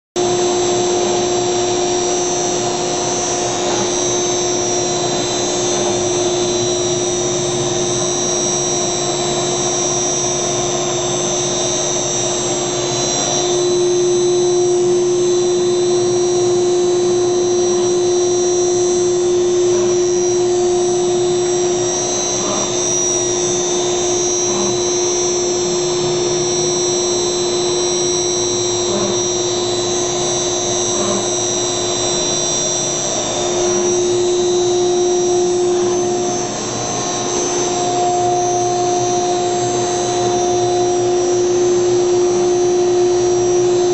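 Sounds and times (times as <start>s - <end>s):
router spindle high whine: 0.2s - 43.9s.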